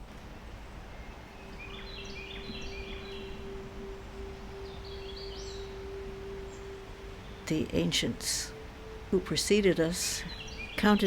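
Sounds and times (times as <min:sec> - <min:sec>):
steady low tone: 0:00.0 - 0:11.0
bird chirping: 0:00.5 - 0:11.0.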